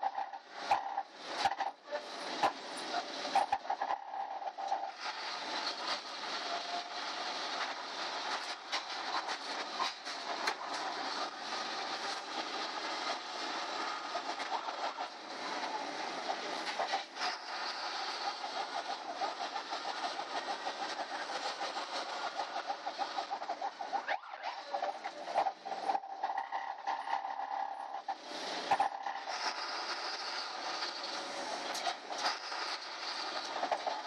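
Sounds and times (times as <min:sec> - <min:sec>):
engine and road noise: 0:00.0 - 0:34.0
bus interior rattling: 0:00.6 - 0:24.1, 0:28.1 - 0:34.0.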